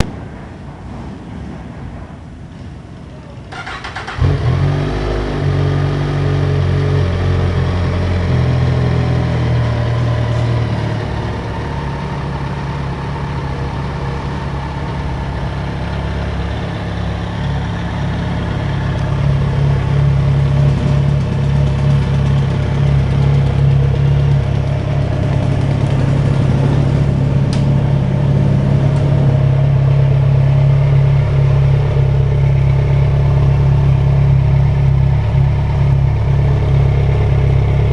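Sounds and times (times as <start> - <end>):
motorcycle engine idling: 7.0 - 37.9.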